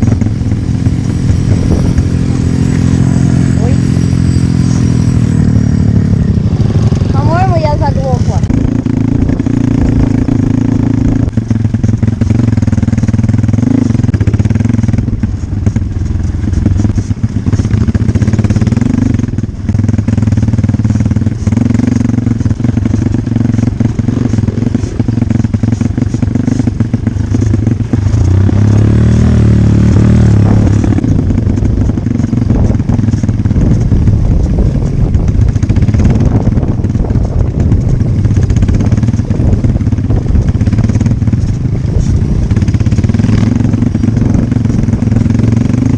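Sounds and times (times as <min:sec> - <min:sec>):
dirt bike engine running: 0:00.0 - 0:45.9.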